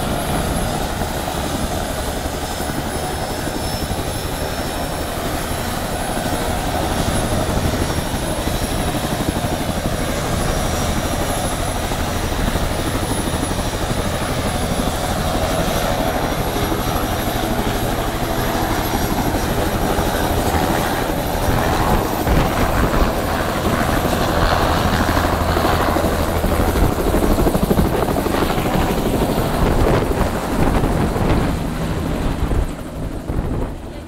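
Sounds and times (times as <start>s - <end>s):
helicopter rotor noise: 0.0s - 34.0s
high turbine whine: 0.0s - 34.0s.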